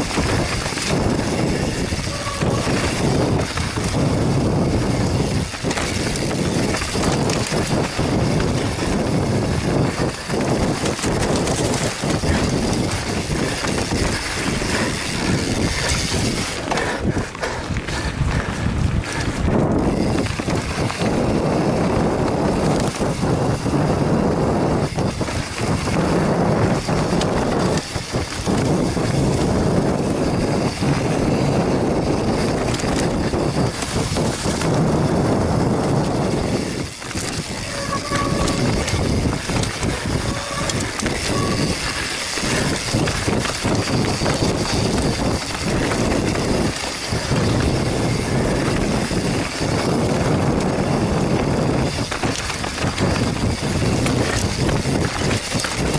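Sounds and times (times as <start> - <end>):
bike knocking and rattling: 0.0 - 55.9
tyre noise on dirt: 0.0 - 55.9
wind rushing over microphone: 0.0 - 55.9.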